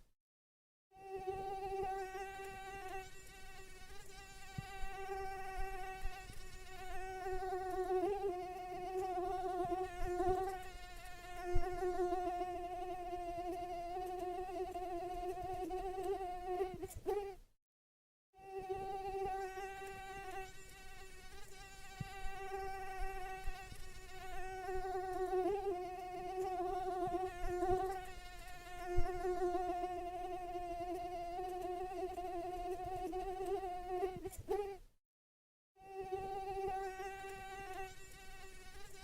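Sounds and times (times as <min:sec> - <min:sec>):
mosquito whine: 0:01.0 - 0:17.4, 0:18.4 - 0:34.8, 0:35.8 - 0:39.0.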